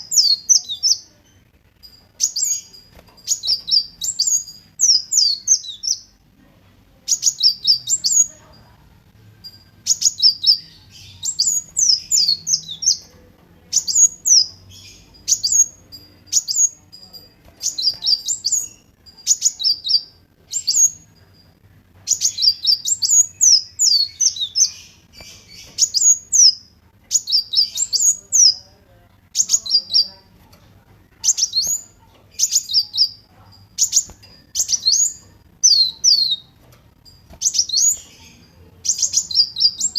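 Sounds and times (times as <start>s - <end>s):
sunbird singing: 0.0s - 6.2s, 7.0s - 8.7s, 9.4s - 21.4s, 22.0s - 39.9s.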